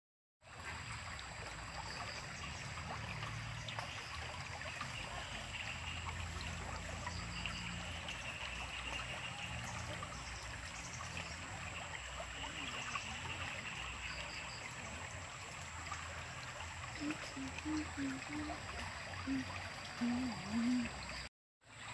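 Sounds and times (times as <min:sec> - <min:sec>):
small river flowing: 0:00.4 - 0:21.9.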